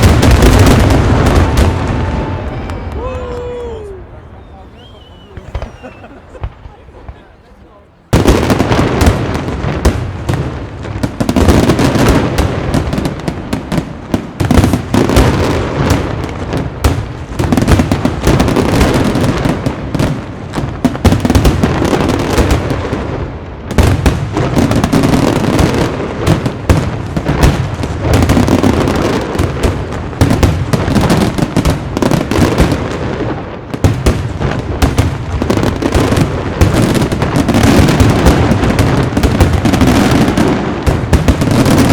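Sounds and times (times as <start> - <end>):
fireworks bursts and crackle: 0.0 - 41.9.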